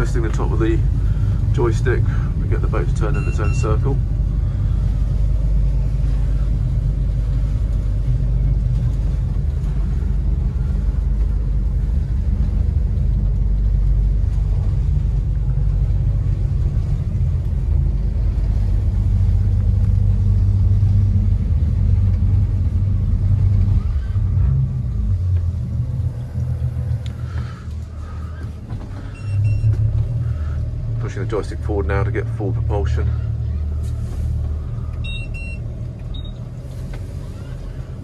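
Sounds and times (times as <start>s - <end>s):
outboard engines rumbling: 0.0s - 38.0s.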